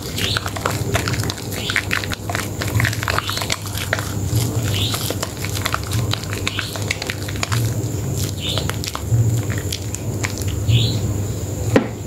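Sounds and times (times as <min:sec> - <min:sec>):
soap squishing between wet hands: 0:00.0 - 0:11.3.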